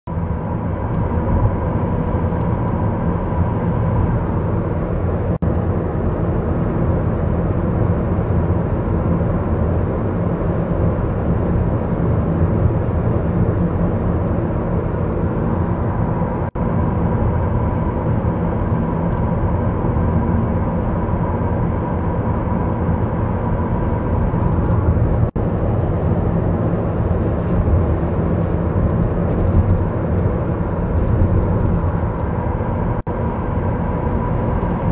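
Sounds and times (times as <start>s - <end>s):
car engine humming: 0.1s - 34.9s
tyre and road noise: 0.1s - 34.9s.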